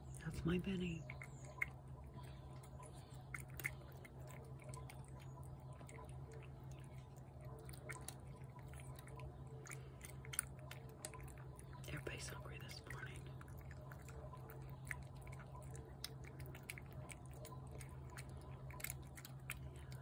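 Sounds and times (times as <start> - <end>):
cat chewing food: 0.0 - 20.0.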